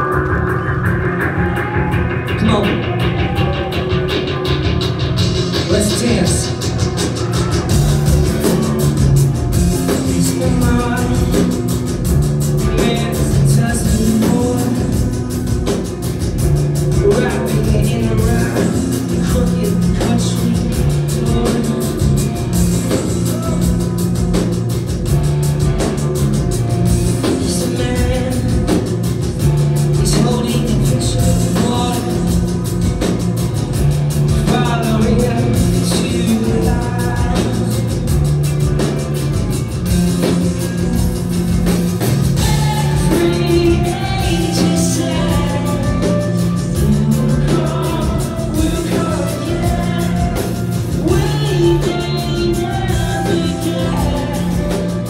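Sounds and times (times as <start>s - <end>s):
person singing: 0.0s - 24.6s, 27.0s - 33.2s, 34.2s - 38.9s, 42.3s - 55.0s
live rock band playing: 0.0s - 55.0s.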